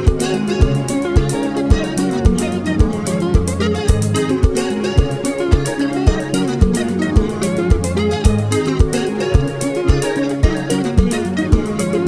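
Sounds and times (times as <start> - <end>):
bass: 0.0 - 12.0
plucked electric guitar lines: 0.0 - 12.0
kick drum beating: 0.1 - 11.8.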